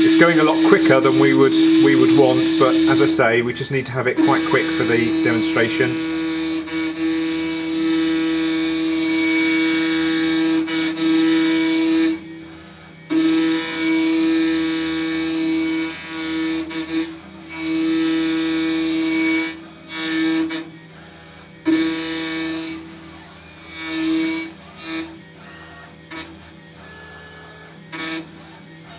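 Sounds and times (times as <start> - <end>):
router spindle whining: 0.0 - 28.9.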